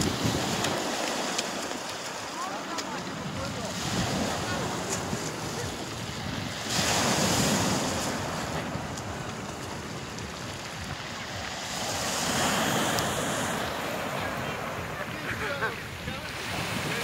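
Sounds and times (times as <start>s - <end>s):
waves washing over pebbles: 0.0s - 17.0s
wind buffeting microphone: 0.0s - 17.0s.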